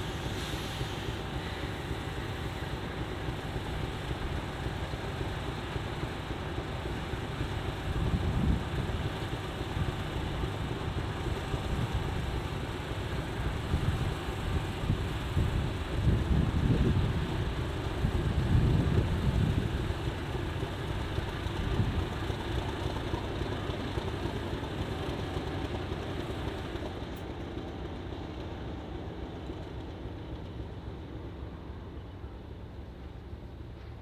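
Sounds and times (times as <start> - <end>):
diesel locomotive engine rumbling: 0.0 - 34.0.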